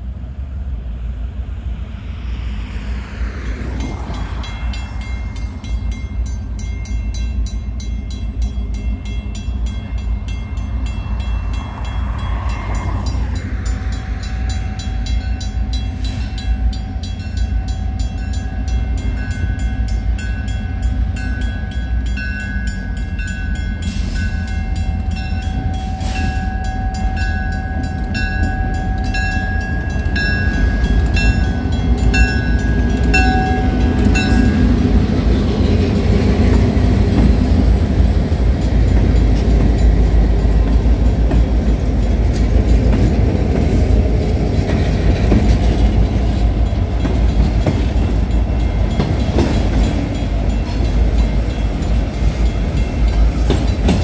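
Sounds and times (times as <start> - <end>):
locomotive engine rumble: 0.0 - 54.0
train wheel noise: 0.0 - 54.0
crossing bell ringing: 3.8 - 54.0.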